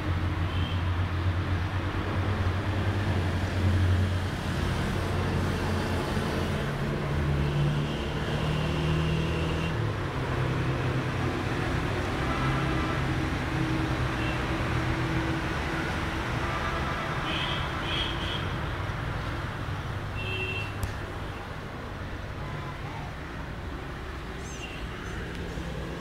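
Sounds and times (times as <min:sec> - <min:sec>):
traffic hum: 0:00.0 - 0:26.0.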